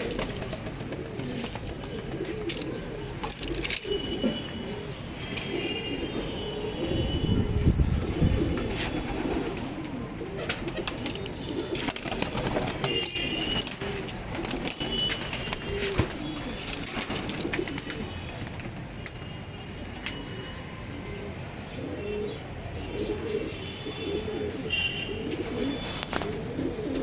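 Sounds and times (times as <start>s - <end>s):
pigeons cooing: 0.0s - 19.2s, 20.3s - 27.0s.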